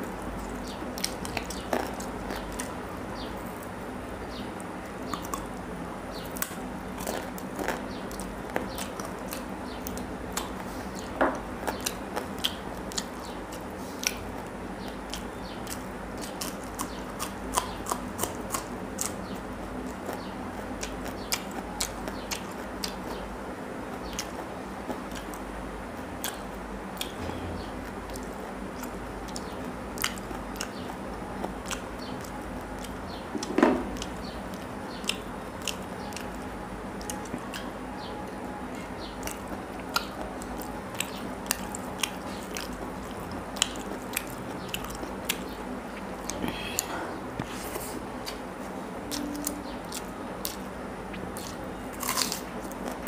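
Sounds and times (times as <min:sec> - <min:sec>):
chewing and biting food: 0:00.0 - 0:03.7, 0:04.3 - 0:23.3, 0:23.9 - 0:27.3, 0:27.9 - 0:38.1, 0:38.8 - 0:46.9, 0:48.0 - 0:53.0.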